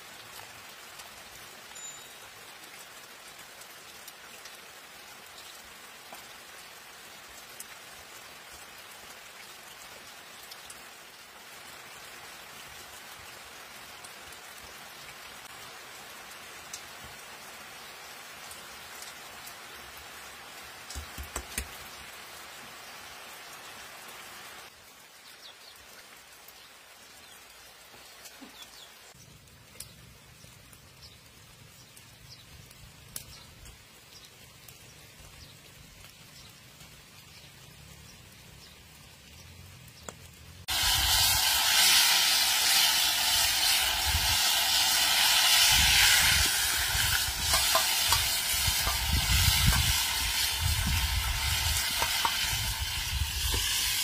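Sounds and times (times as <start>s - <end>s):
fish frying in hot oil: 0.0s - 22.1s, 28.0s - 54.0s.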